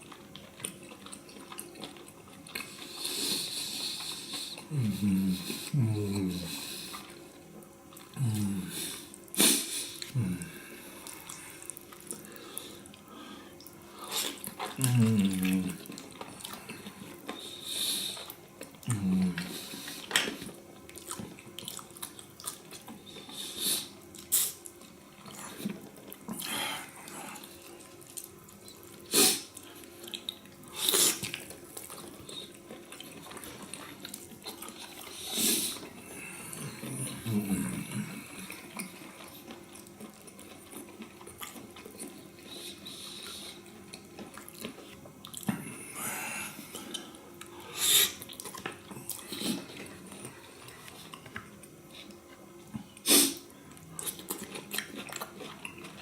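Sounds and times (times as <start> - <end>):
chewing and wet mouth sounds: 0.0 - 56.0.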